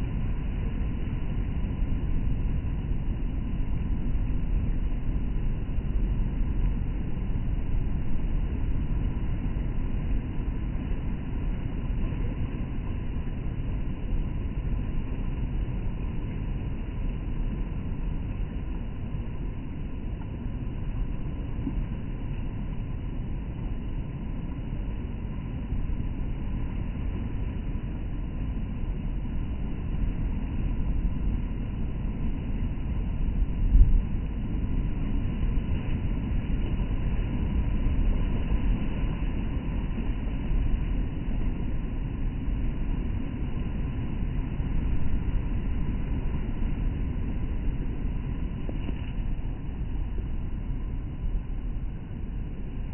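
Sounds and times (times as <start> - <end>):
surf crashing on shore: 7.2 - 52.9.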